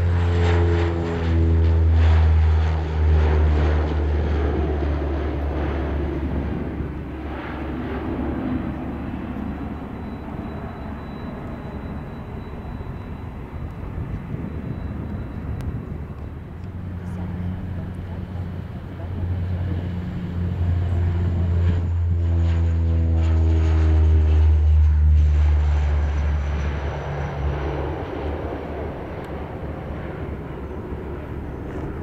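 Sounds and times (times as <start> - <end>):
propeller plane taking off: 0.0 - 32.0
turboprop humming: 0.0 - 32.0.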